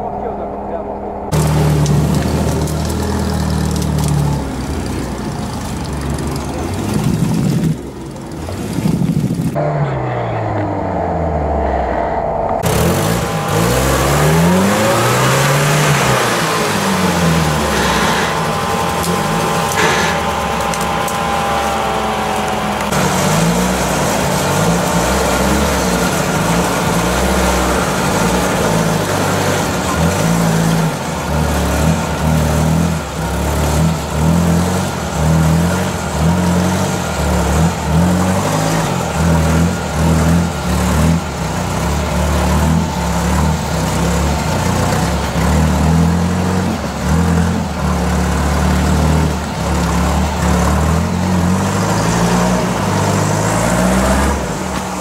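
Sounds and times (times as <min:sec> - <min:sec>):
engine revving in surges: 0:00.0 - 0:55.0.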